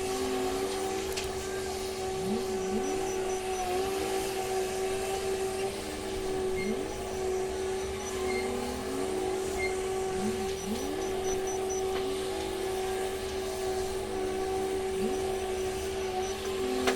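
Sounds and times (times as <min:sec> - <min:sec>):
wheel loader engine droning: 0:00.0 - 0:16.9.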